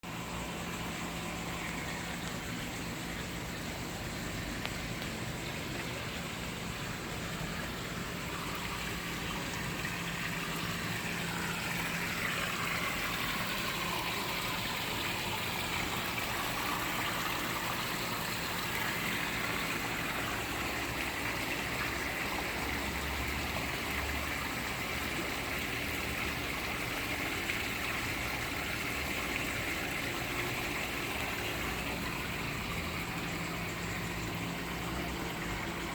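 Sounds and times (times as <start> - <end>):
water trickling and splashing: 0.0 - 35.9.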